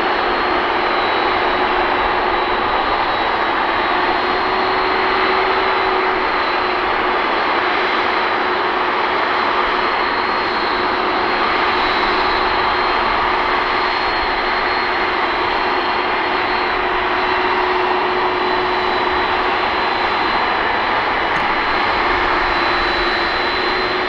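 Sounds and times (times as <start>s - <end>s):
high jet whine: 0.0s - 24.0s
jet engines roaring: 0.0s - 24.0s.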